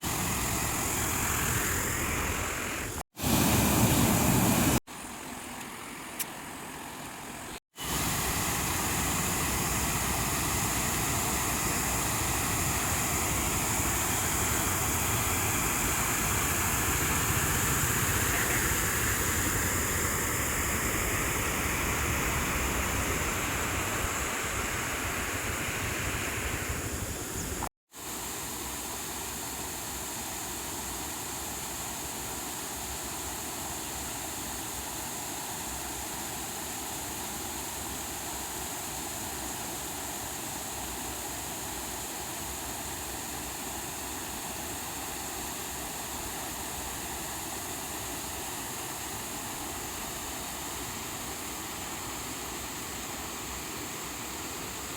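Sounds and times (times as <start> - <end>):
water rushing over dam: 0.0 - 5.5, 7.2 - 54.9.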